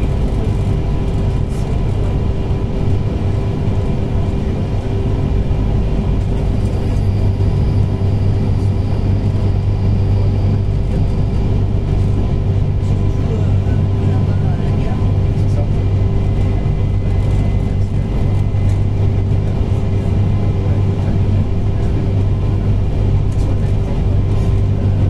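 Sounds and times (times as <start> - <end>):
steady humming tones: 0.0 - 25.0
train rumble from inside carriage: 0.0 - 25.0.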